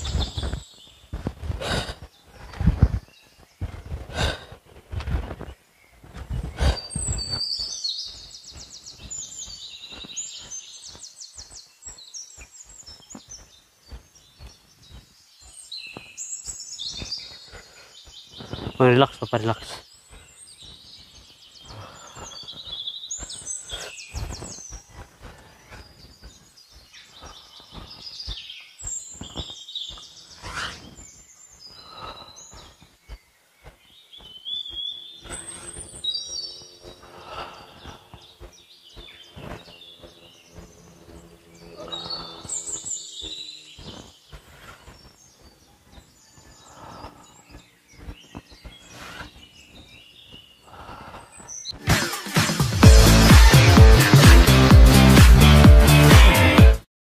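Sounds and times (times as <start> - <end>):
birds chirping: 0.0 - 56.8.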